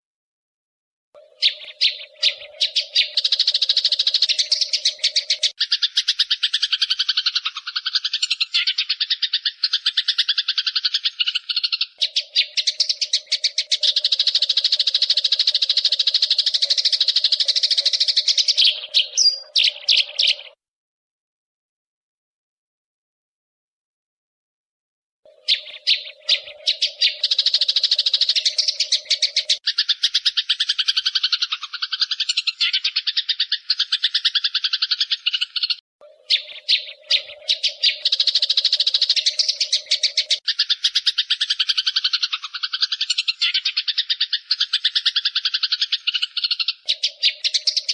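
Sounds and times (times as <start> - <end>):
sparrows chirping: 1.2 - 20.6, 25.3 - 47.9.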